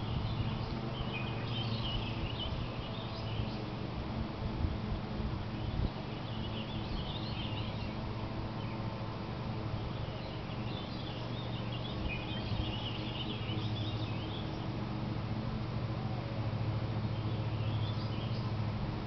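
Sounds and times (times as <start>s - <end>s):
small birds twittering: 0.0s - 19.0s
steady low hum: 0.0s - 19.0s.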